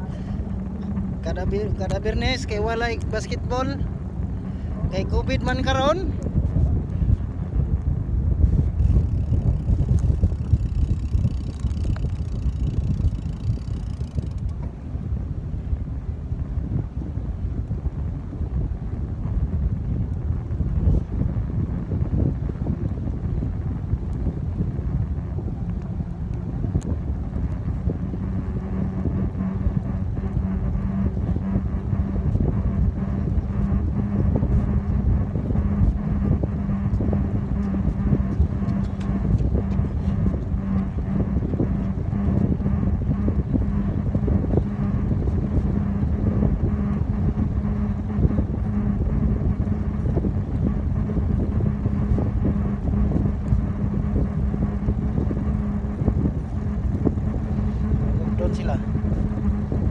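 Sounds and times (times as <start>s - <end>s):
steady low hum: 0.0s - 59.9s
tyres rumbling on asphalt: 0.0s - 59.9s
wind buffeting microphone: 0.0s - 59.9s.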